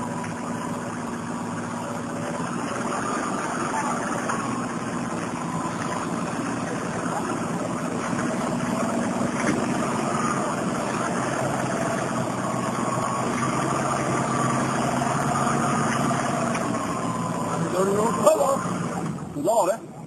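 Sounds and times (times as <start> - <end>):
truck engine running at low revs: 0.0 - 20.0.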